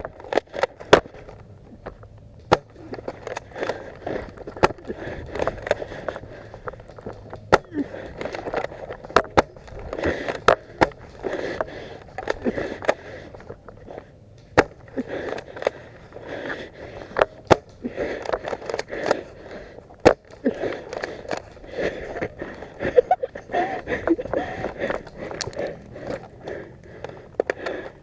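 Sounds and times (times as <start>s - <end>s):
gear rustling: 0.0s - 28.0s.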